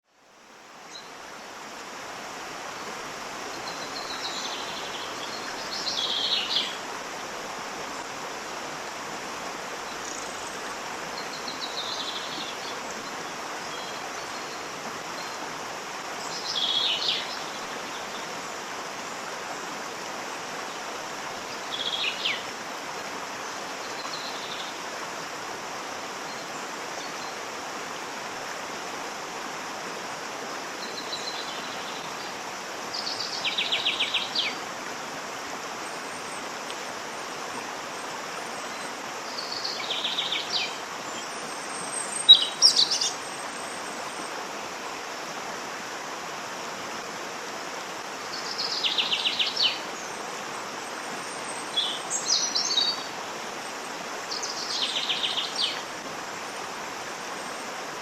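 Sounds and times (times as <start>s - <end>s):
waterfall rushing: 0.9s - 58.0s.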